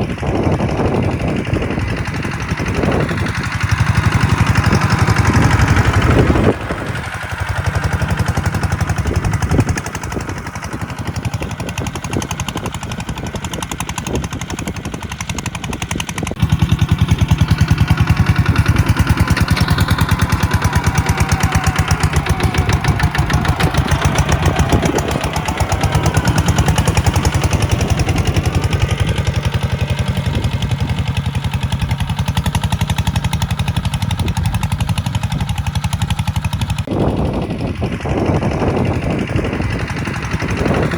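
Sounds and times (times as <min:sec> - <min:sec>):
tractor diesel engine thumping: 0:00.0 - 0:40.9.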